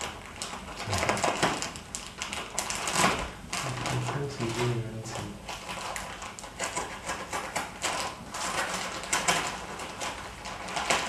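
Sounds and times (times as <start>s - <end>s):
packaging clicks and rustles: 0.0s - 11.0s.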